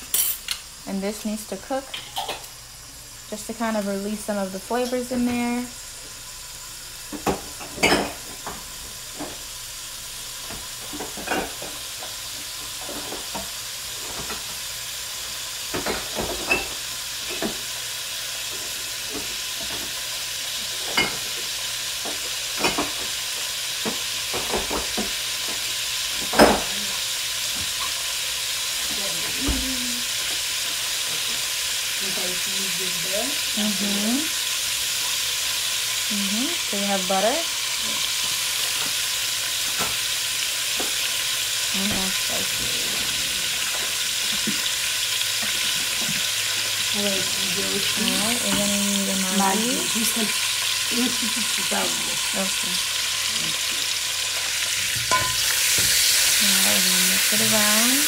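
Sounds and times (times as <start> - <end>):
seasoning paste sizzling in oil: 0.0 - 58.0.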